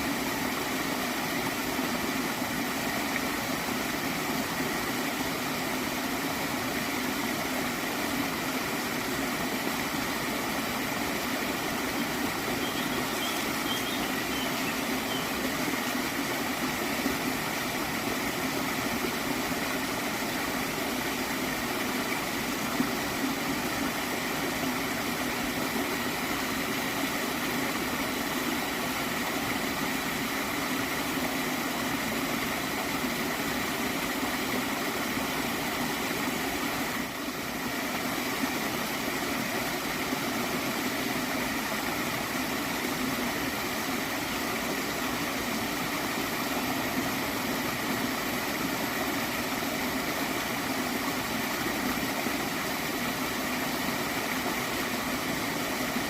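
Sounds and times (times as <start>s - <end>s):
stream flowing and gurgling: 0.0s - 56.0s.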